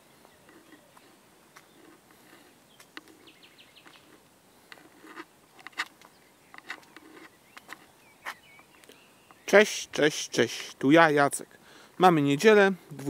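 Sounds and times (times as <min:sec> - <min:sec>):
faint birdsong chirps: 0:00.0 - 0:13.0.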